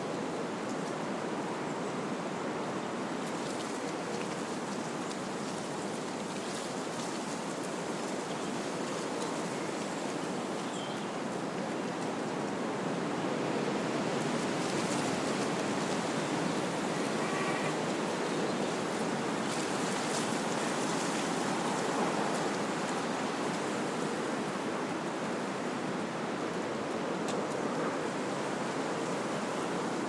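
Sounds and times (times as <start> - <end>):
wind rushing through trees: 5.7 - 30.0.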